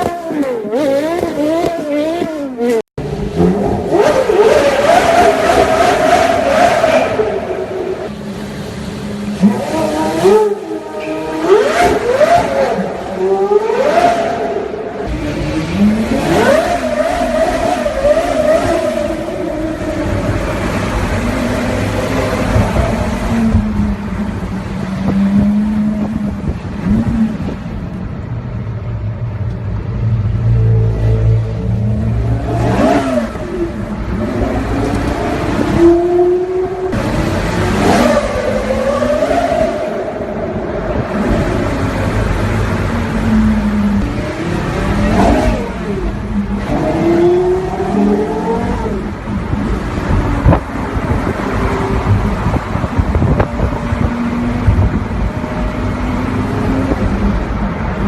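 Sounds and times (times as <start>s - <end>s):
car engine revving: 0.0s - 28.0s, 29.4s - 58.0s.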